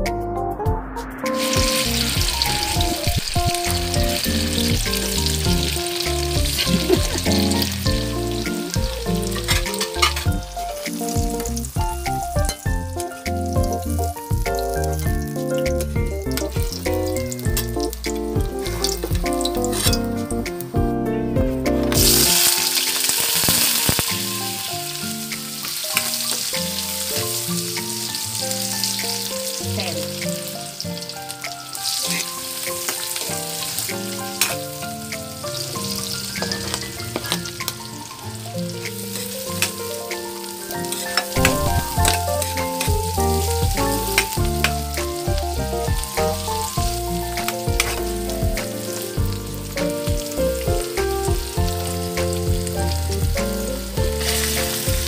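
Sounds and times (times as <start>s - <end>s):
soft background music: 0.0s - 55.0s
onions sizzling in hot oil: 1.4s - 20.0s, 21.9s - 55.0s.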